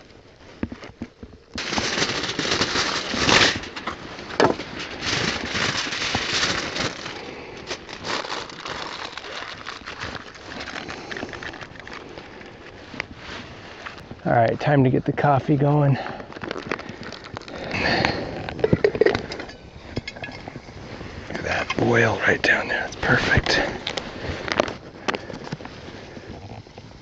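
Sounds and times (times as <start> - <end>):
aluminium foil crinkling: 0.5 - 14.3, 15.2 - 27.0.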